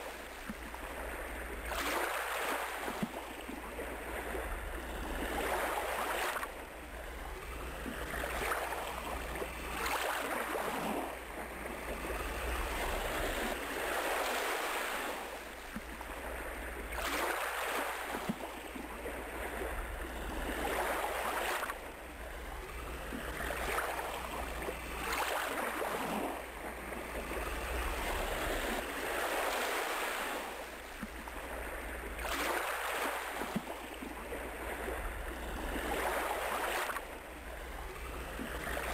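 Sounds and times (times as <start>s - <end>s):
ocean waves washing on a beach: 0.0s - 38.9s.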